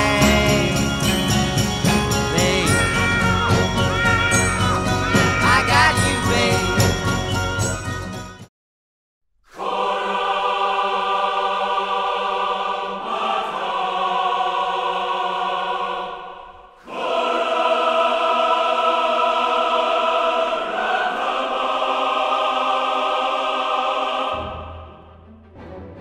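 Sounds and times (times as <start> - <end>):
choir singing held chords: 0.0 - 8.1, 9.5 - 26.0.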